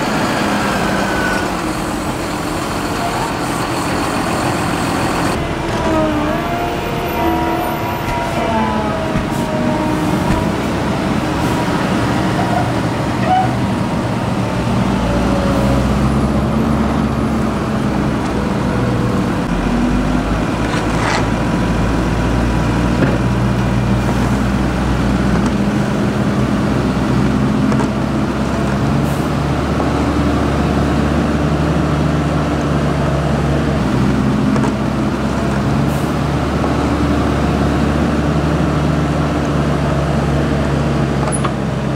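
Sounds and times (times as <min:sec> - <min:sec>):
diesel tractor engines running: 0:00.0 - 0:41.9.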